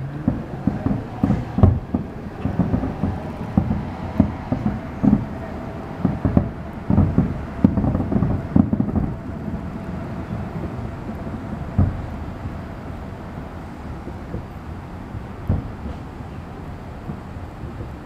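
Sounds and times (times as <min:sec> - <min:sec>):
distant fireworks booming: 0:00.0 - 0:18.0.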